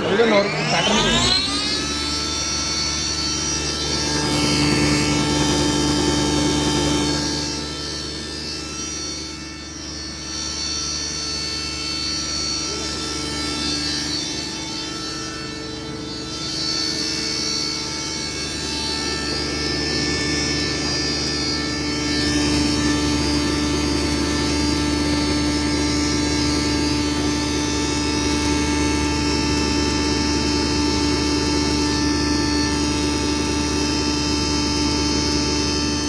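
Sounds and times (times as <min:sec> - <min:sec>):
grinder machine whining: 0:00.0 - 0:36.0.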